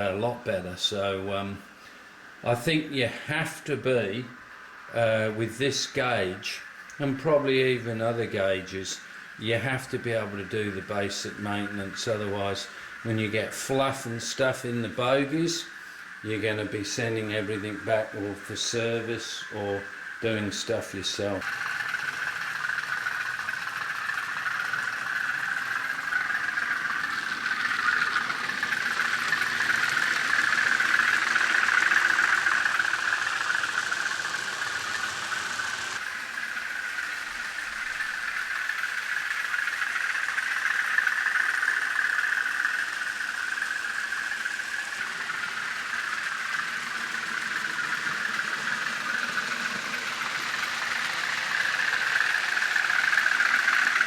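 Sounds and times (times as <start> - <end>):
model locomotive engine running: 0.0 - 54.0.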